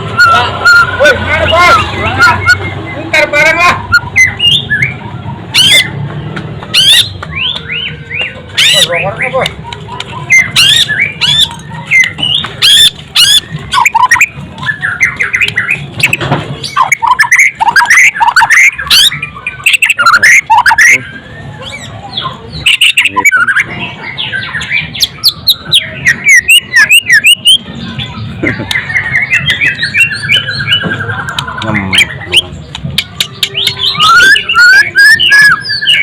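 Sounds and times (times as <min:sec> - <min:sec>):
bird singing whistled notes: 0:03.9 - 0:06.0, 0:06.7 - 0:36.0
harsh bird clicking calls: 0:03.9 - 0:36.0.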